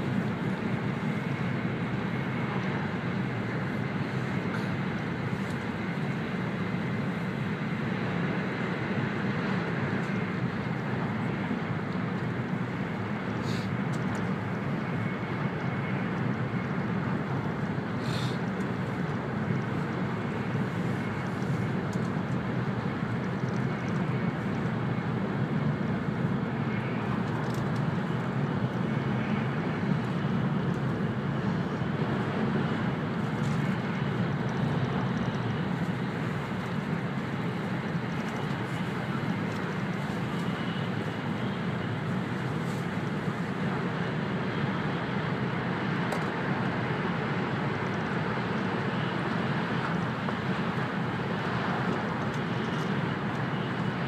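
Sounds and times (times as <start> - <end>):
wheels and track rumble: 0.0 - 54.0.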